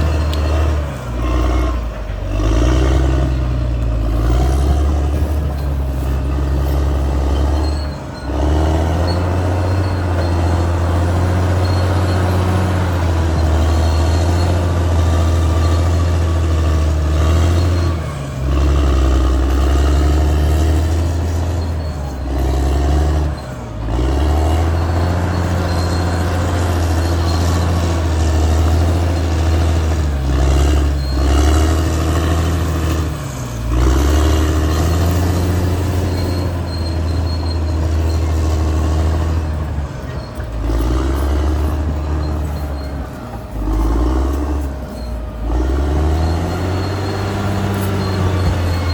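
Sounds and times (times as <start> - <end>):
bulldozer diesel engine running hard: 0.0 - 48.9.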